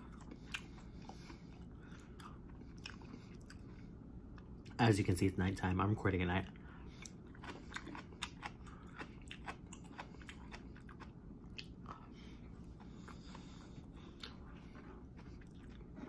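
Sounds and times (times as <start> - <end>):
person chewing with crunches: 0.0 - 4.8, 6.4 - 16.0.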